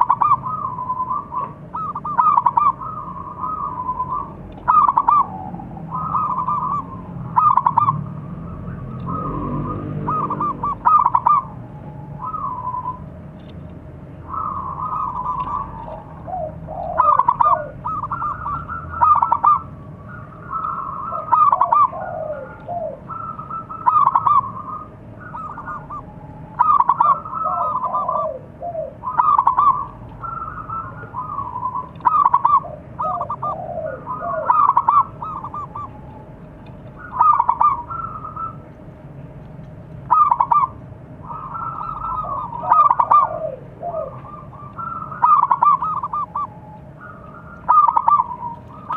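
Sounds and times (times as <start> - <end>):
dove cooing: 0.0 - 13.2, 14.1 - 39.0, 40.1 - 48.9.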